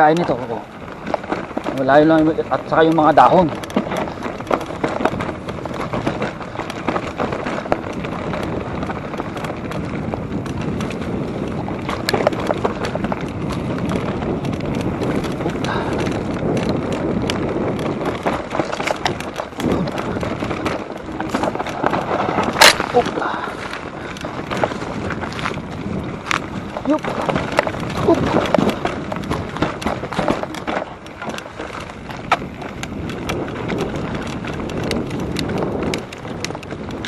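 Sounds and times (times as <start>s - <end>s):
bike rattling and clicking: 0.0s - 37.0s
bike tyres rolling on dirt: 0.0s - 37.0s.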